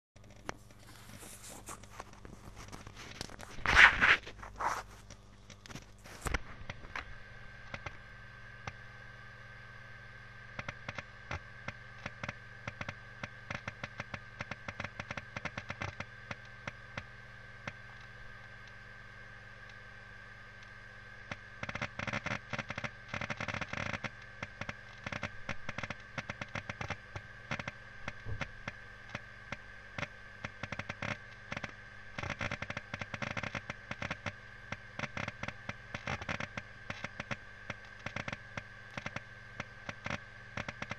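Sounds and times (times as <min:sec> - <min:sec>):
hard disk clicking and crackling: 0:00.2 - 0:40.9
hard disk whine and hum: 0:00.2 - 0:40.9.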